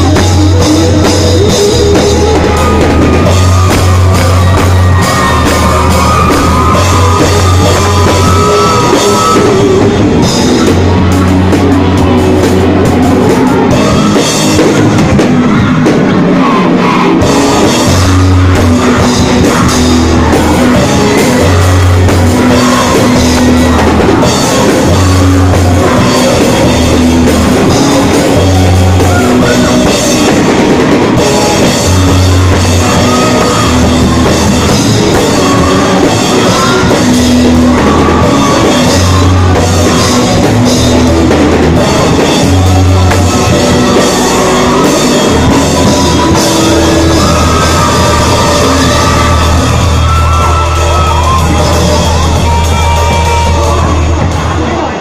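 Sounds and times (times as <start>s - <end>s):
bass line: 0.0s - 55.0s
drum kit: 0.0s - 55.0s
electric guitar: 0.0s - 55.0s.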